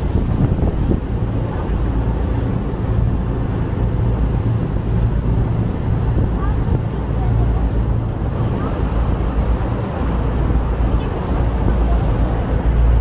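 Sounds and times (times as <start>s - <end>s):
ferry engine droning: 0.0s - 13.0s
wind buffeting microphone: 0.0s - 13.0s.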